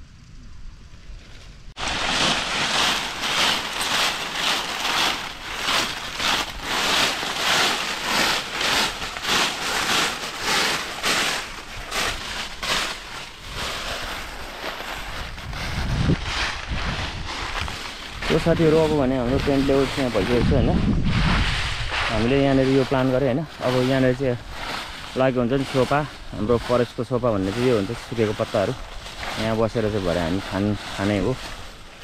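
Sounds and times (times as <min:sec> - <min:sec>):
broom sweeping dry leaves: 0:01.2 - 0:32.0.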